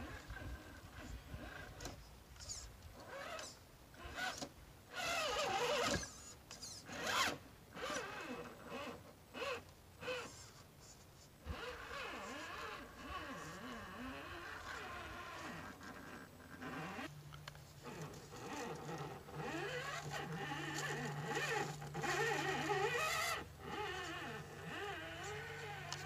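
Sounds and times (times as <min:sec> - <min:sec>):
toy car electric motor whining: 0:01.0 - 0:10.6, 0:11.5 - 0:17.1, 0:17.8 - 0:26.0.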